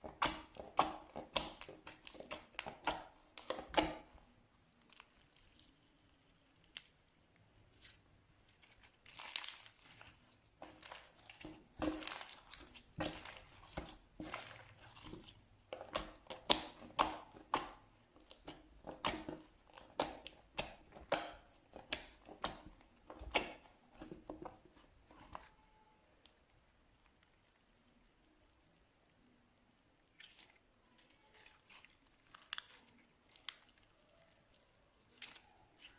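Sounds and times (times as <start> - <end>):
slime crackling and popping: 0.0 - 7.4, 8.6 - 27.5, 30.1 - 35.9.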